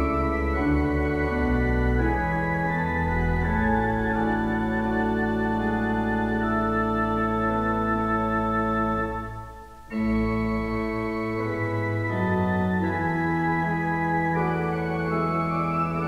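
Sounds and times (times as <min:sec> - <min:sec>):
organ pedal bass line: 0:00.0 - 0:16.0
pipe organ chords: 0:00.0 - 0:16.0.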